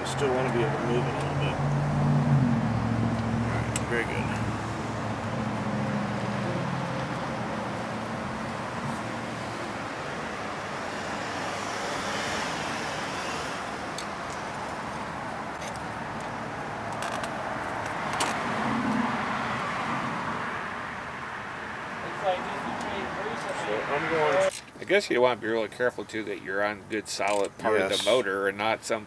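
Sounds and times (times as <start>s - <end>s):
outdoor background rush: 0.0s - 29.0s.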